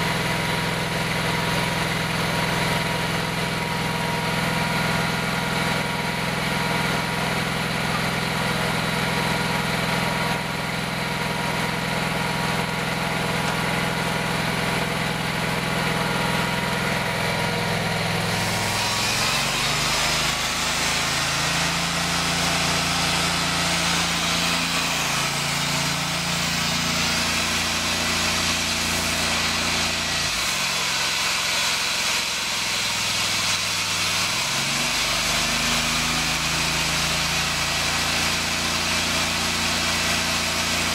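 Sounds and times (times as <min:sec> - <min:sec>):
insulation blowing machine running: 0:00.0 - 0:40.9.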